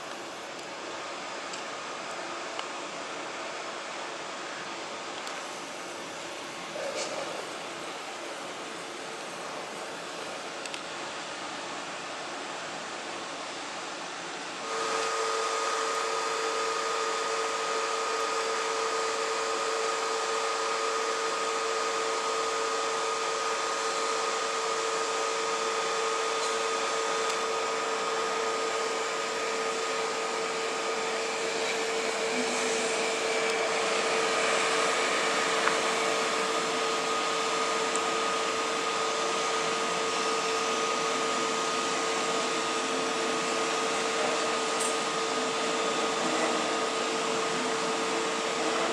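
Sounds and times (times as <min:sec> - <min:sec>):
train electrical whine: 0:00.0 - 0:48.9.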